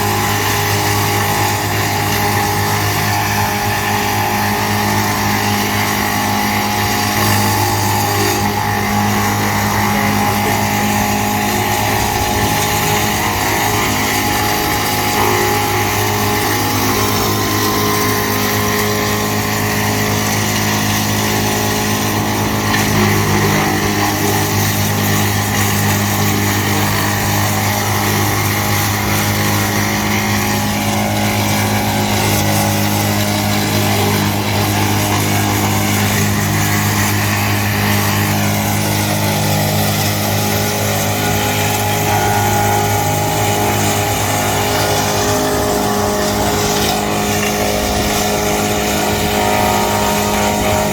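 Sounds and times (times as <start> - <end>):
woodchipper running: 0.0 - 50.9.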